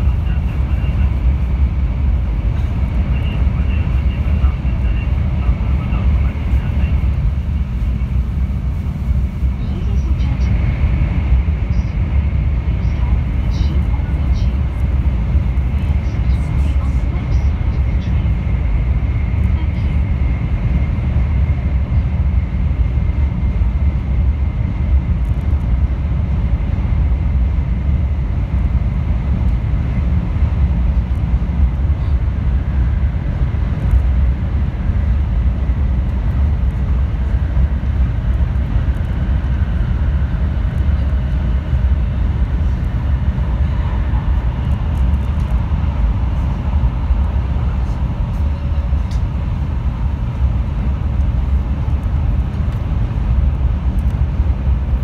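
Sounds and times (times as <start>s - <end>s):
train rumbling in tunnel: 0.0s - 55.0s.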